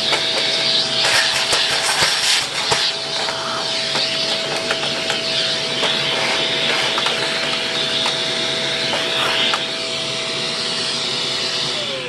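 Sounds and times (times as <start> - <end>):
vacuum cleaner whine: 0.0 - 12.0.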